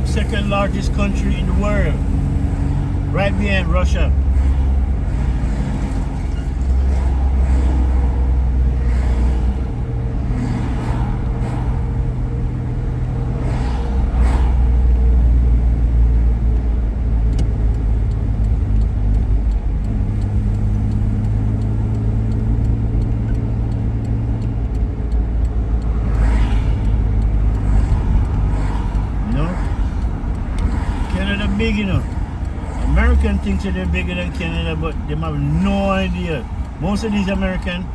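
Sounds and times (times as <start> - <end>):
car engine hum: 0.0 - 37.9
road noise: 0.0 - 37.9.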